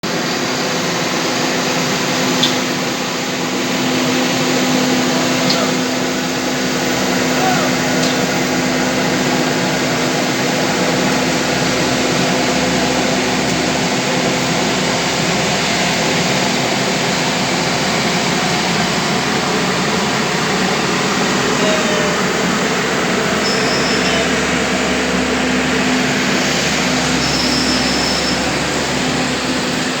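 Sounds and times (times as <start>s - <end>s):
low machine hum: 0.0s - 30.0s
road construction machinery running: 0.0s - 30.0s.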